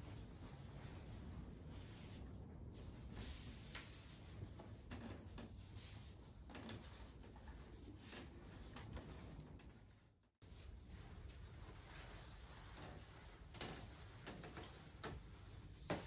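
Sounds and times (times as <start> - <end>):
faint rustling: 0.0 - 16.0.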